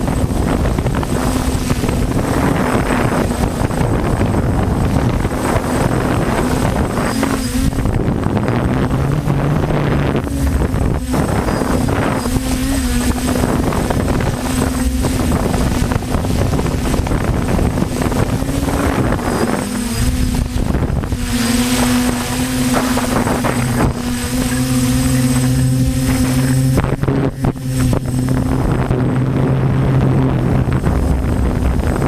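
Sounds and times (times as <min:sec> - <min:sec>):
drone motors humming: 0:00.0 - 0:32.0
wind buffeting microphone: 0:00.0 - 0:32.0.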